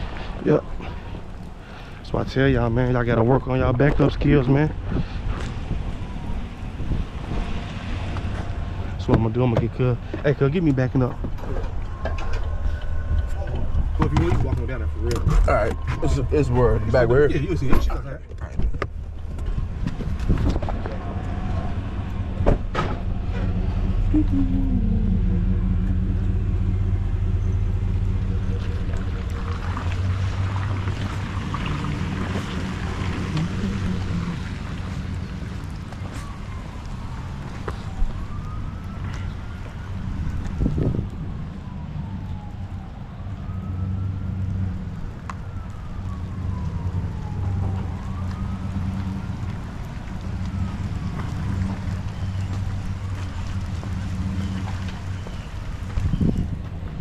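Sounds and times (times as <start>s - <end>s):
distant siren wailing: 0.0s - 18.3s, 19.0s - 57.0s
truck engine rumbling: 0.0s - 57.0s.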